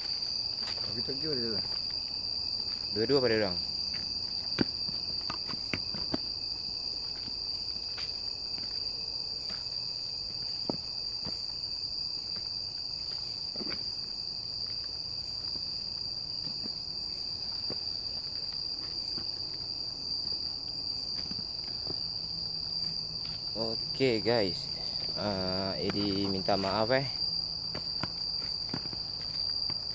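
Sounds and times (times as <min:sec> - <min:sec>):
footsteps clicking on path: 0:00.0 - 0:29.9
night insects chorus: 0:00.0 - 0:29.9.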